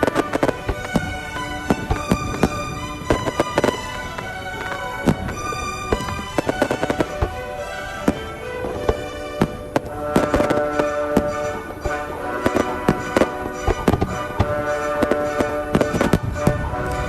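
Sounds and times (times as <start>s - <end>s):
fireworks bursting: 0.0s - 17.0s
music playing: 0.0s - 17.0s.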